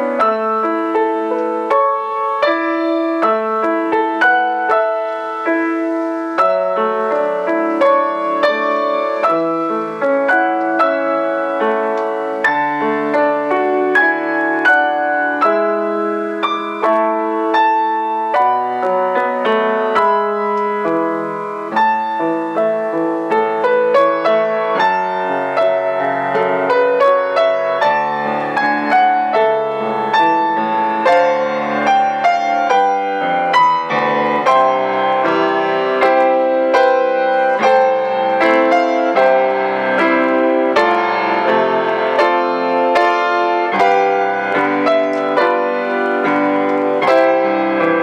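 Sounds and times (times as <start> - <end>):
grand piano playing: 0.0 - 48.0.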